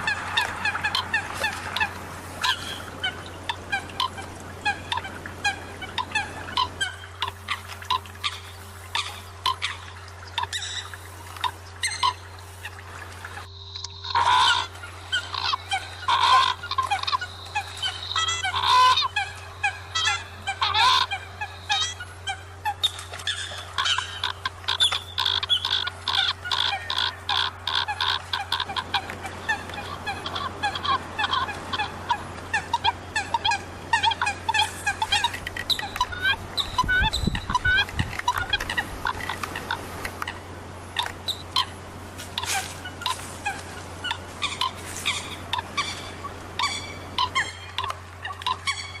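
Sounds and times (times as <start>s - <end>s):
coots honking calls: 0.0s - 49.0s
low electrical hum: 0.0s - 49.0s.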